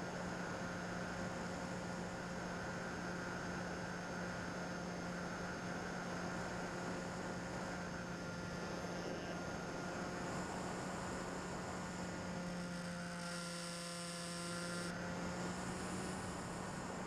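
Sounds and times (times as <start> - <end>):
electric motor and propeller running: 0.0 - 17.0.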